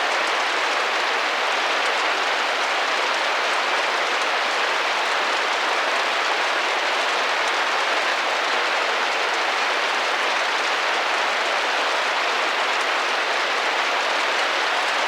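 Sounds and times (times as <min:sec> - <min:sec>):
rain pattering on a window: 0:00.0 - 0:15.0.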